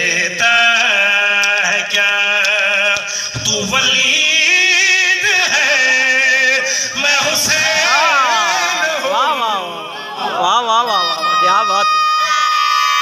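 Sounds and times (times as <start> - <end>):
man chanting over loudspeaker: 0.0 - 12.1.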